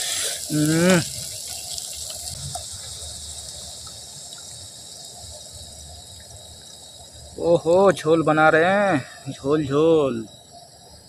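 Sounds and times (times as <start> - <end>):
water trickling into sauce: 0.0 - 11.0.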